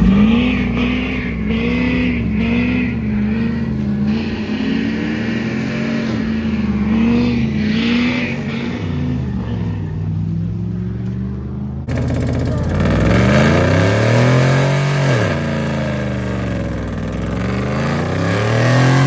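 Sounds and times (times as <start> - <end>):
second engine idling: 0.0 - 19.0
truck engine revving: 0.0 - 19.0.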